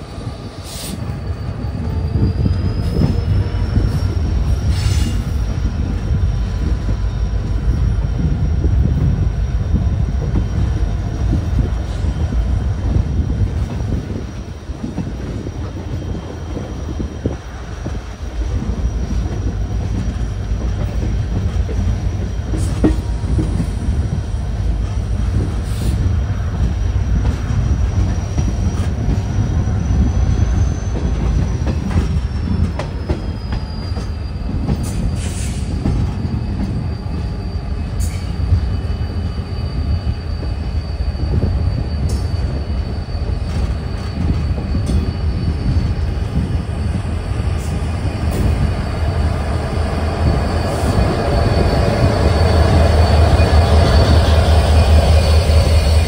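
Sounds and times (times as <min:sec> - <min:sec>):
high wheel squeal: 0:00.0 - 0:56.0
train wheels rumbling: 0:00.0 - 0:56.0.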